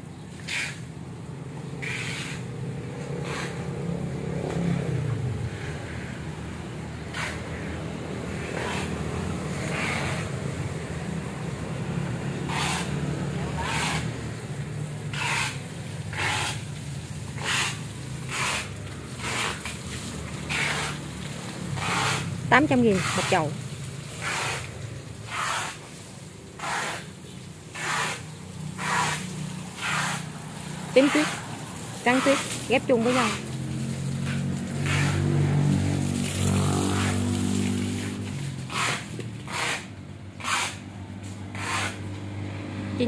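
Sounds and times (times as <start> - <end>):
vehicle engine passing by: 0.0 - 43.0.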